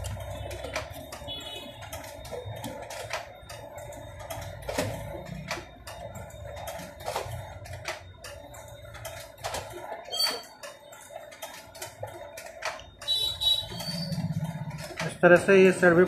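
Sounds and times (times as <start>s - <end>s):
paper feed clicks and clacks: 0.0s - 16.0s
photocopier hum: 0.0s - 16.0s.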